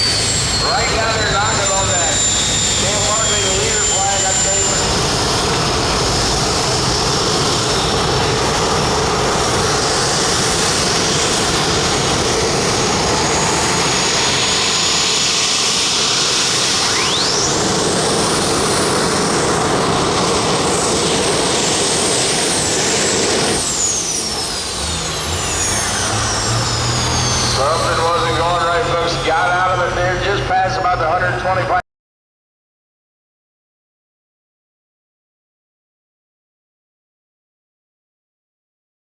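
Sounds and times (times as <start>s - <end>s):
high engine whine: 0.0s - 31.8s
tractor engine at full power: 0.0s - 31.8s.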